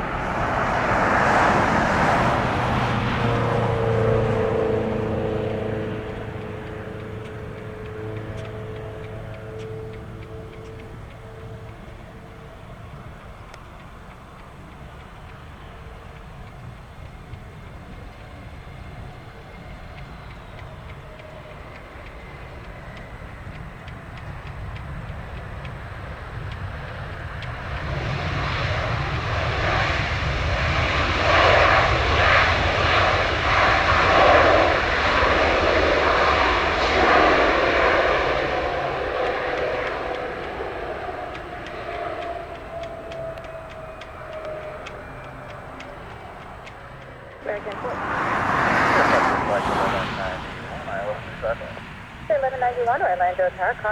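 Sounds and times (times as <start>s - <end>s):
jet airliner taking off overhead: 0.0s - 53.9s.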